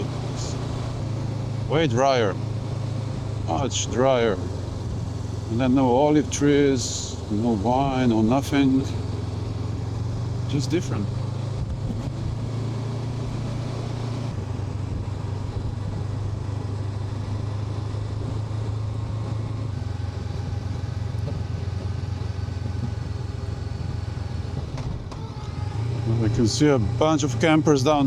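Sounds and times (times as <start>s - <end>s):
motorcycle engine cruising: 0.0s - 28.0s.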